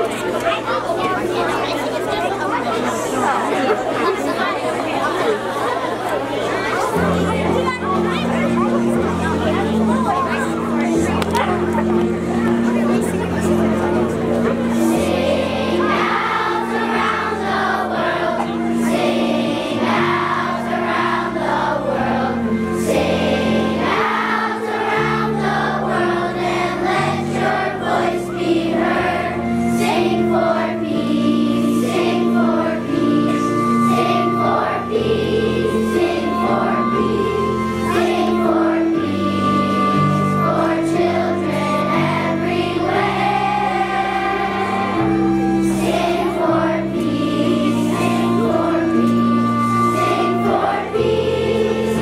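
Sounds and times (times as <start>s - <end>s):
children's choir singing: 0.0s - 52.0s
instrumental accompaniment: 6.0s - 52.0s.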